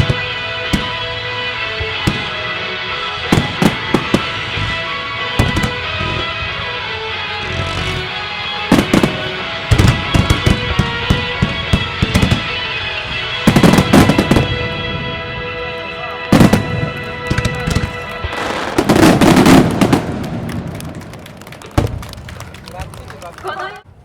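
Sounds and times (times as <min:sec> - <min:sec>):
fireworks bangs and crackles: 0:00.0 - 0:23.8.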